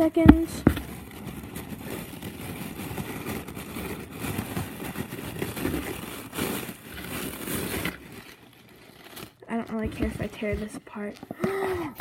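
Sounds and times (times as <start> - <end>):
cardboard box handling: 0.3 - 12.0.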